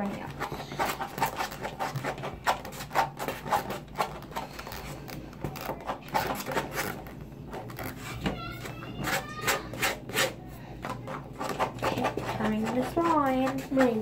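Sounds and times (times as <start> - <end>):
plastic spoons scraping slime: 0.0 - 14.0.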